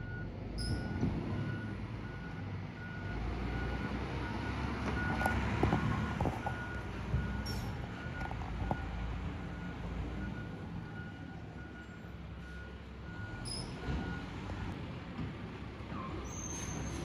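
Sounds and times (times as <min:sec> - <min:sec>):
truck backup alarm beeping: 0:00.0 - 0:14.8
diesel engine rumble: 0:00.0 - 0:17.0.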